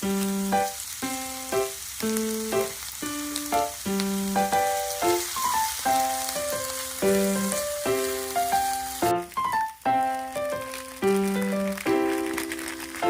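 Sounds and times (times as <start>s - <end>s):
simple melody of held notes: 0.0s - 12.3s
food frying sizzle: 0.0s - 13.0s.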